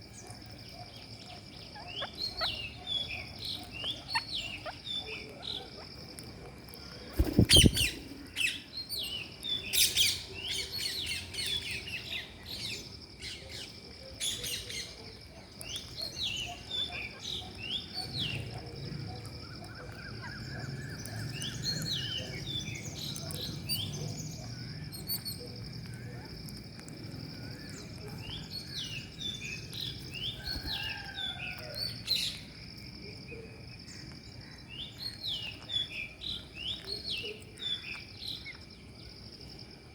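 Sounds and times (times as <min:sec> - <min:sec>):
birds chirping and calling: 0:00.2 - 0:32.6, 0:33.9 - 0:38.6.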